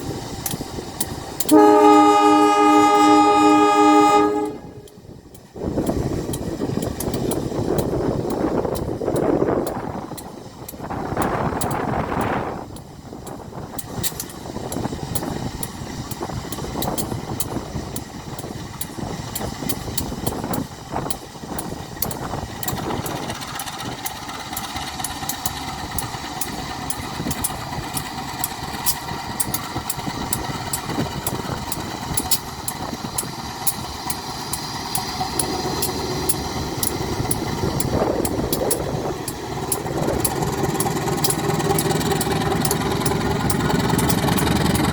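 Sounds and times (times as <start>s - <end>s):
diesel locomotive engine running: 0.0s - 44.9s
sharp clicks: 0.4s - 1.6s, 4.8s - 44.9s.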